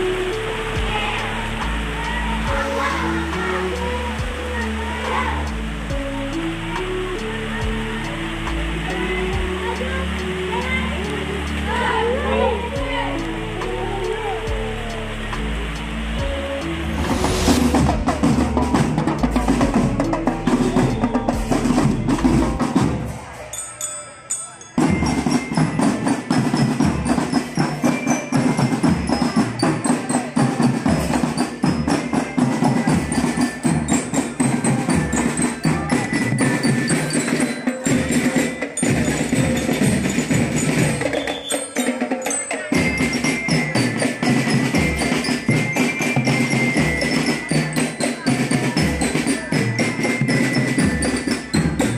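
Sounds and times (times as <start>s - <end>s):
drum band playing: 0.0s - 23.8s, 24.6s - 51.9s
bright mallet bell tones: 0.0s - 51.9s.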